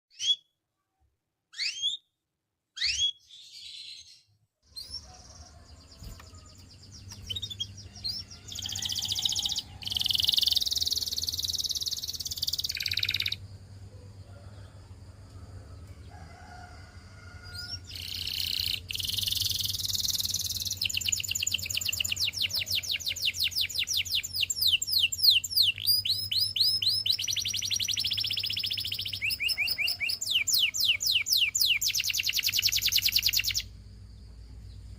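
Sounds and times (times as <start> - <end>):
canary singing: 0.1 - 0.5, 1.5 - 2.1, 2.8 - 13.5, 17.3 - 33.8
faint low hum: 4.8 - 30.2, 31.8 - 34.9.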